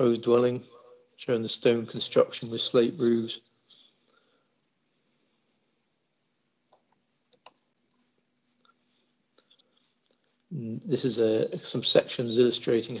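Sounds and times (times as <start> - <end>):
high-pitched chirping tone: 0.0 - 13.0.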